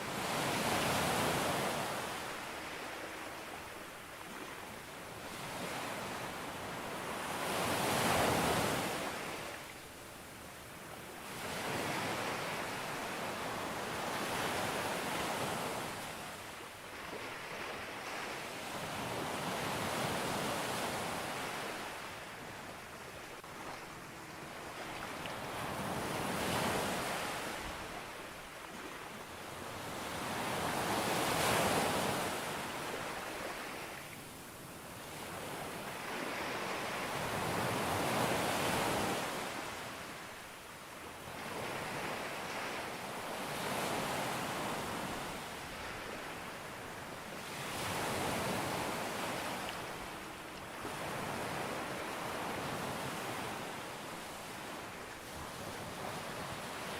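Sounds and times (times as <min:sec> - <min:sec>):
ocean waves breaking on beach: 0:00.0 - 0:56.9.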